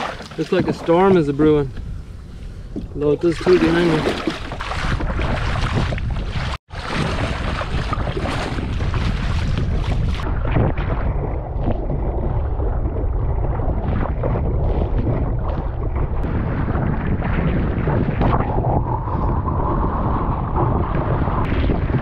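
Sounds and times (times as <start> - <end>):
sea water splashing: 0.0 - 1.7, 3.0 - 22.0
wind buffeting microphone: 0.0 - 22.0.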